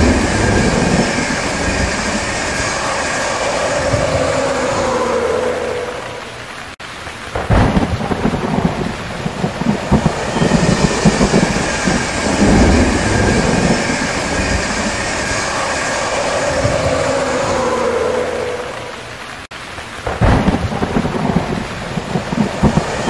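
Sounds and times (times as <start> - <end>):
passing train rumble: 0.0 - 19.5, 20.3 - 23.0
heavy rain: 0.0 - 23.0
rolling thunder: 0.0 - 23.0.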